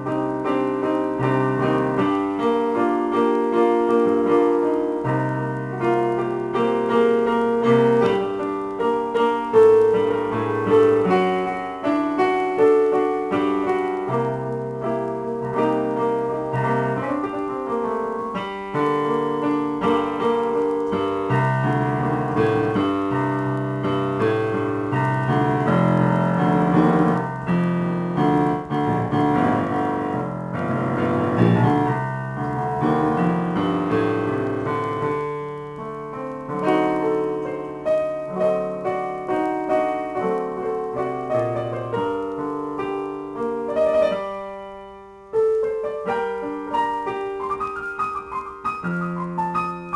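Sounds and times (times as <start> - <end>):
solo piano playing: 0.0 - 49.9.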